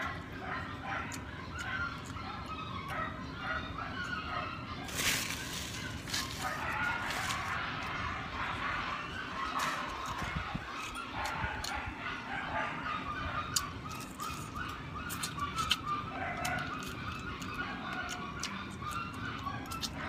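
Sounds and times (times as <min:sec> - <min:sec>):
chewing with clicks and smacks: 0:00.0 - 0:20.0
chickens clucking: 0:00.0 - 0:20.0.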